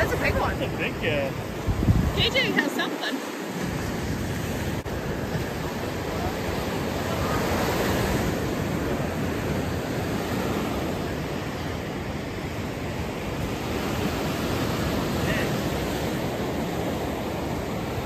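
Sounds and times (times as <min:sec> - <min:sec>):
surf washing onto beach: 0:00.0 - 0:18.0.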